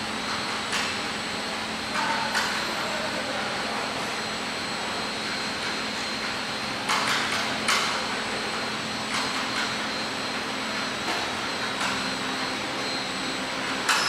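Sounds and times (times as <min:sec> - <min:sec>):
packaging machine hum: 0:00.0 - 0:14.0.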